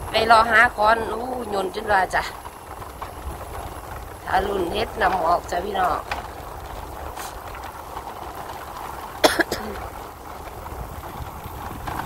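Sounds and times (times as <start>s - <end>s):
vehicle road noise: 0.0s - 12.0s
wind rumble: 0.0s - 12.0s.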